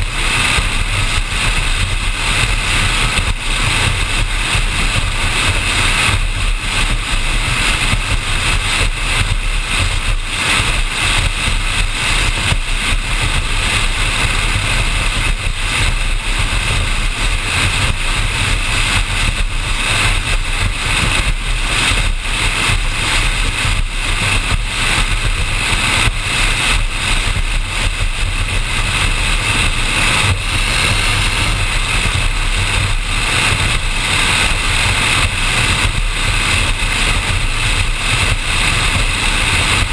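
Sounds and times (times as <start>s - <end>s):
powerboat engine drone: 0.0s - 39.9s
rush of wind and water: 0.0s - 39.9s.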